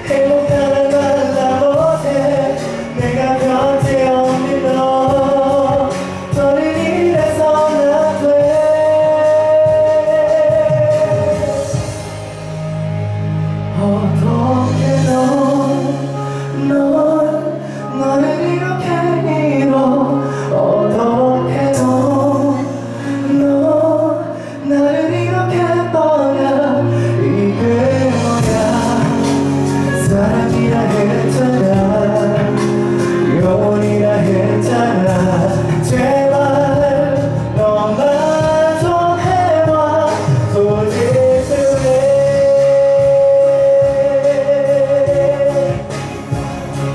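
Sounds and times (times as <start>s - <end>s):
man singing pop song: 0.0s - 12.7s, 13.6s - 46.9s
musical accompaniment: 0.0s - 46.9s.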